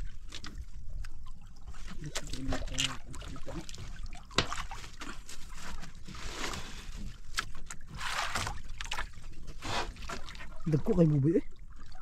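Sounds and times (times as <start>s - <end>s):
water sloshing against boat: 0.0s - 12.0s.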